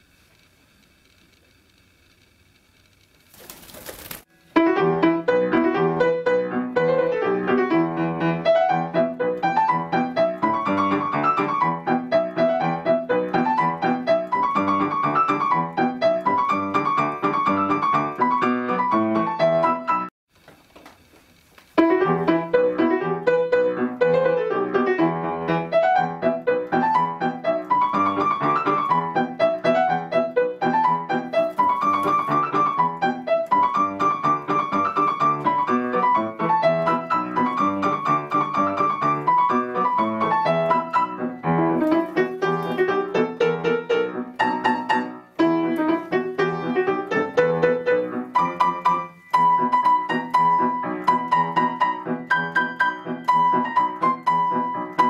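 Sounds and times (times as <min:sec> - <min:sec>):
piano music: 0:04.3 - 0:20.1, 0:21.8 - 0:55.0.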